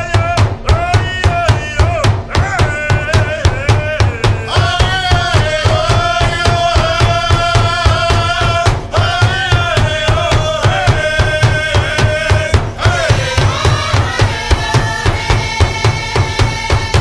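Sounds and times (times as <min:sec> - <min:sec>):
drum steady beat: 0:00.0 - 0:17.0
high-pitched singing: 0:00.0 - 0:17.0.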